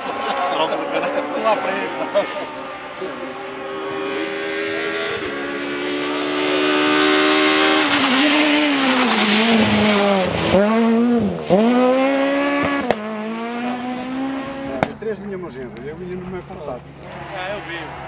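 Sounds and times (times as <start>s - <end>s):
rally car engine at full throttle: 0.0s - 18.0s.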